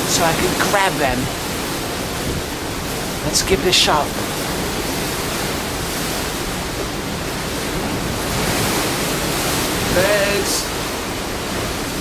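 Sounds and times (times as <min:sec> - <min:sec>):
rushing water: 0:00.0 - 0:12.0
wind: 0:00.0 - 0:12.0.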